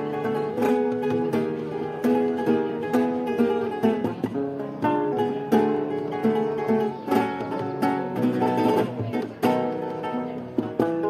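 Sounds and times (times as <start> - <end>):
spanish guitar playing: 0.0 - 11.0.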